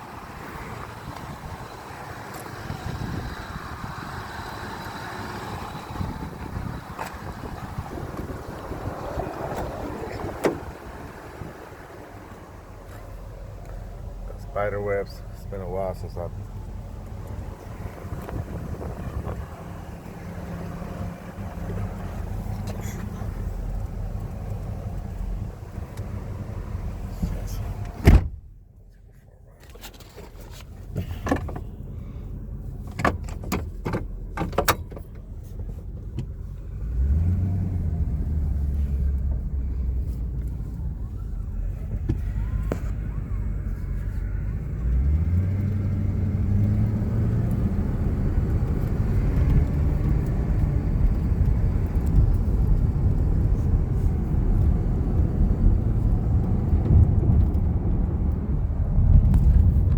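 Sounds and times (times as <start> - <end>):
truck engine: 0.0 - 28.6, 29.7 - 59.9
road noise: 0.0 - 59.9.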